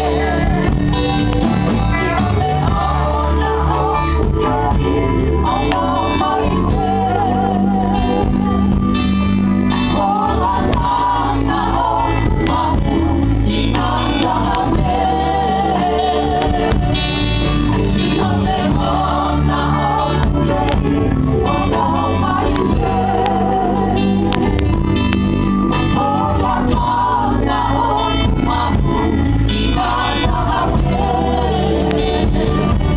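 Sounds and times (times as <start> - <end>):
guitar and band accompaniment: 0.0 - 32.9
vocal group singing gospel: 0.0 - 32.9.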